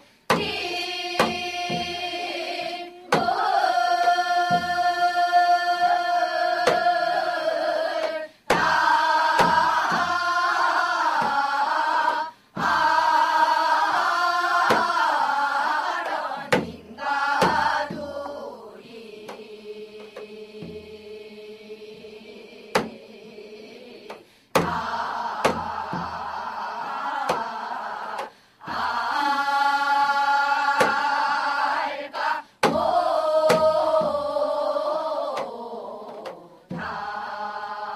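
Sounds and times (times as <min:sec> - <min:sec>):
women and children singing in unison: 0:00.0 - 0:37.9
hourglass drum strokes: 0:00.3 - 0:21.2, 0:24.0 - 0:37.9.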